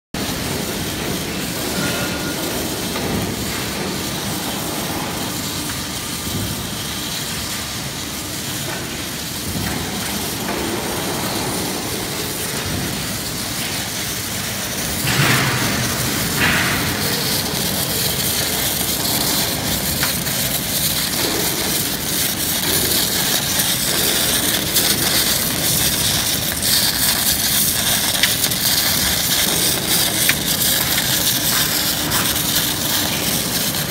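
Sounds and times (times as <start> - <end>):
industrial welding machine noise: 0.2 - 33.9
welding arc hiss: 0.2 - 33.9.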